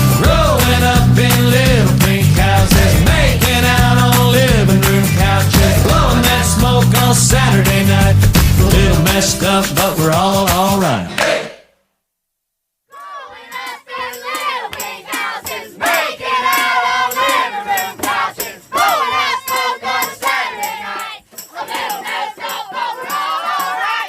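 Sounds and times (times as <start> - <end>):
crowd shouting and cheering: 0.0 - 11.6, 12.9 - 24.0.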